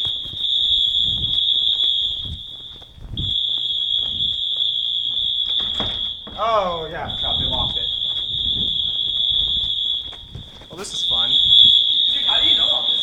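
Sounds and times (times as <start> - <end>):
fire alarm high-pitched tone: 0.0 - 13.0.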